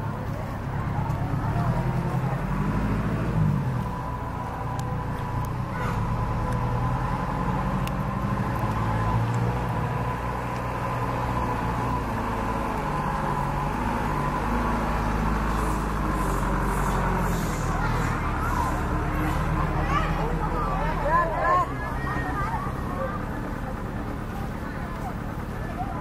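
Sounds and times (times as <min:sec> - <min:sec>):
engine humming with faint whine: 0:00.0 - 0:26.0.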